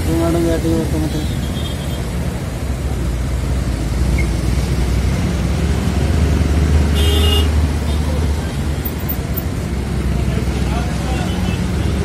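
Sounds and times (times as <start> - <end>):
motorcycle riding: 0.0 - 12.0
road traffic rumble: 0.0 - 12.0.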